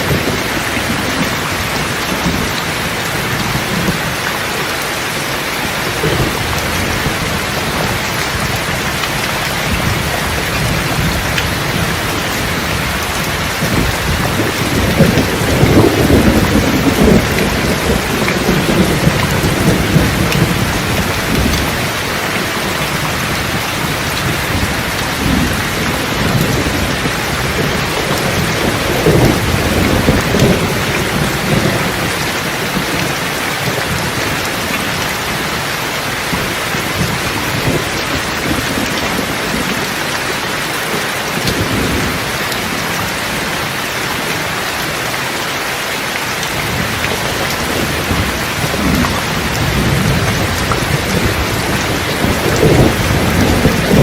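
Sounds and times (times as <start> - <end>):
rolling thunder rumbling: 0.0 - 40.6, 41.3 - 43.8, 46.4 - 54.0
steady heavy rain: 0.0 - 54.0.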